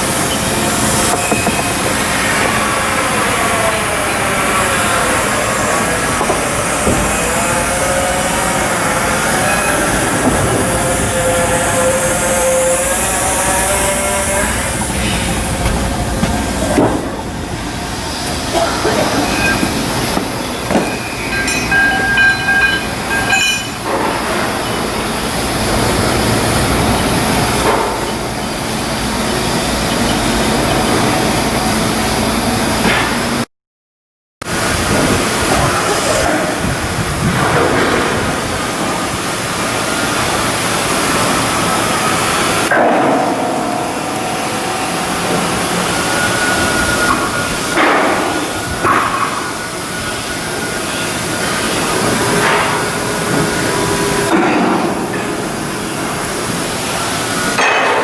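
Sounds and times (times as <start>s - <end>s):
machinery running: 0.0s - 33.4s, 34.5s - 58.0s.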